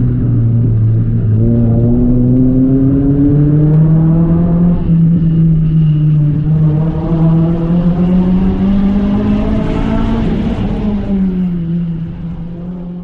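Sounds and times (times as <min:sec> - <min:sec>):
car engine pulling under load: 0:00.0 - 0:13.0
road noise rumble: 0:00.0 - 0:13.0.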